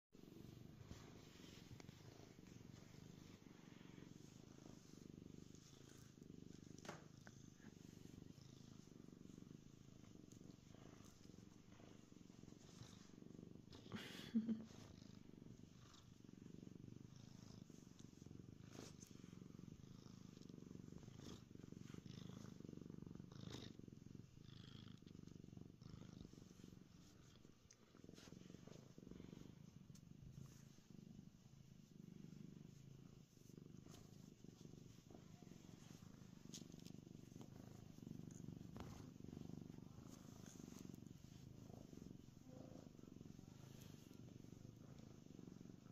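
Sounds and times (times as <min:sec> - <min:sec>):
cat purring: 0:00.2 - 0:45.9.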